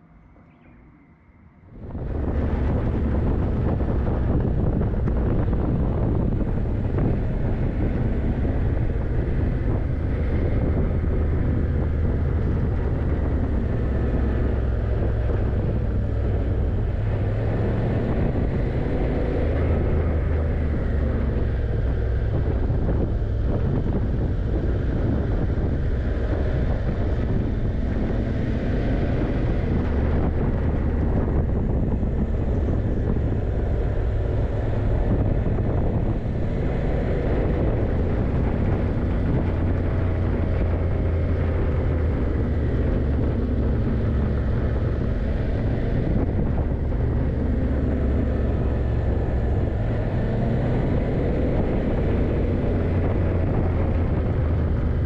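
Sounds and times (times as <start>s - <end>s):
wind noise on microphone: 1.6s - 55.0s
motorcycle engine running: 1.8s - 55.0s.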